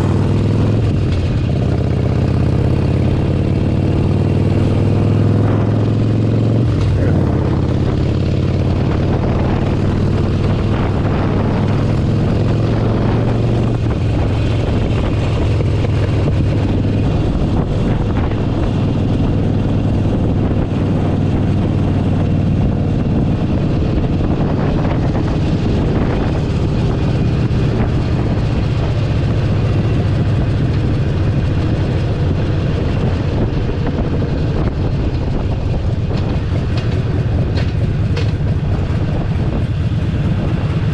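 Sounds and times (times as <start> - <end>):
motorcycle engine running: 0.0 - 40.9
road noise: 0.0 - 40.9
wind rushing over microphone: 0.0 - 40.9.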